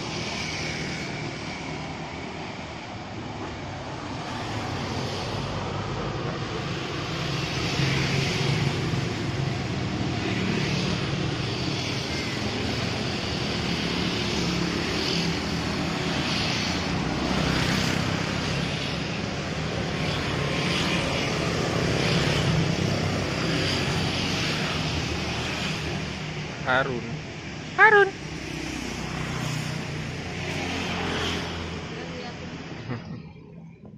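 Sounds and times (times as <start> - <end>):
engines rumbling: 0.0 - 33.9.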